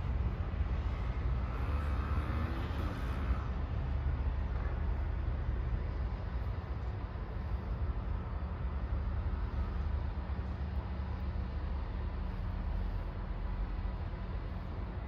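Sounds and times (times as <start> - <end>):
low urban background rumble: 0.0 - 15.0.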